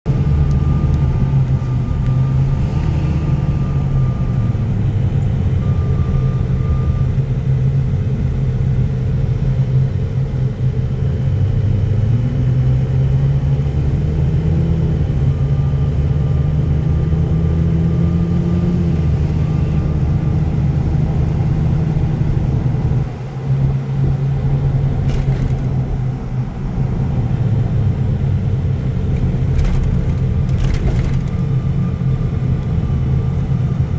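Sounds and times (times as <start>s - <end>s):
low drivetrain rumble: 0.0s - 33.9s.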